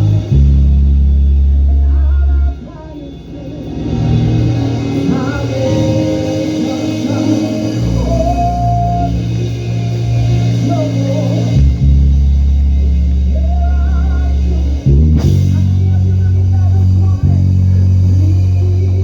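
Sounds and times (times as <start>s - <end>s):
bass guitar low notes: 0.0s - 19.0s
drums: 0.0s - 19.0s
guitar: 0.0s - 19.0s
person singing: 1.7s - 12.1s, 13.1s - 19.0s.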